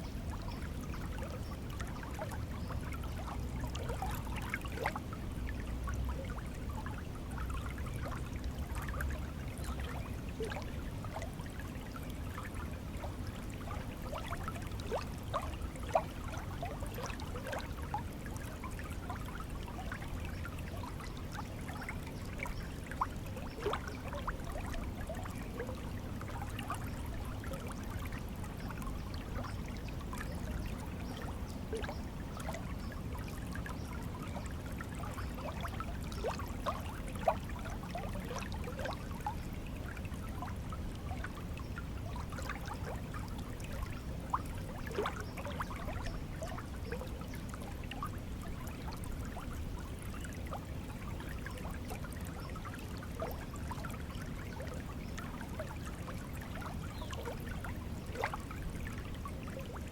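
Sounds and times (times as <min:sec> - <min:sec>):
stream water rushing and bubbling: 0:00.0 - 0:59.9.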